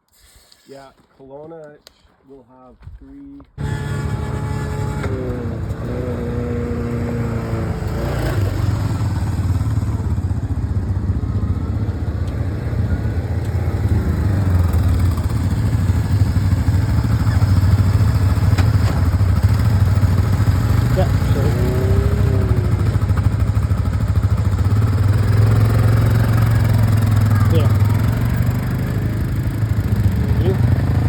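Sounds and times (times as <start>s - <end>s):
off-road vehicle engine running: 3.6s - 31.0s.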